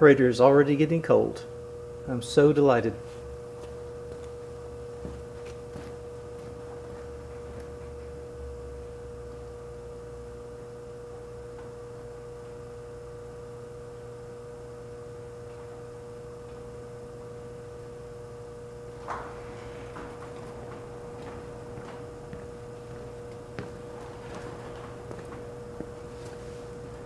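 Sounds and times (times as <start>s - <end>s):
high pure whine: 0.0s - 27.0s
refrigerator compressor hum: 0.0s - 27.0s.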